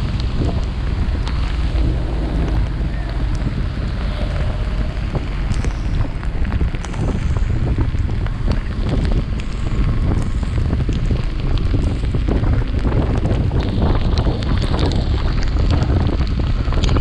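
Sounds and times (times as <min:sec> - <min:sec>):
road and engine noise: 0:00.0 - 0:17.0
wind buffeting camera: 0:00.0 - 0:17.0.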